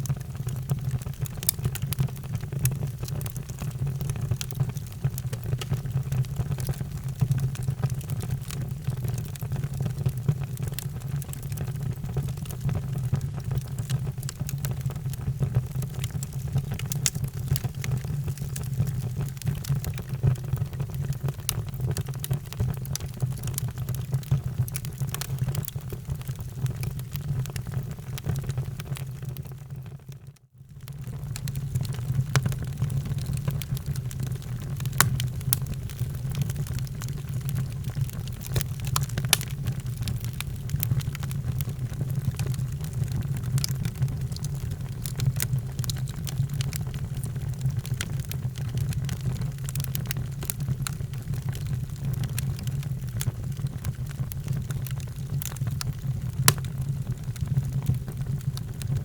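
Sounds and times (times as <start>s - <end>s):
fire low rumble: 0.0s - 29.0s, 30.8s - 59.0s
fire crackles and pops: 0.0s - 59.0s.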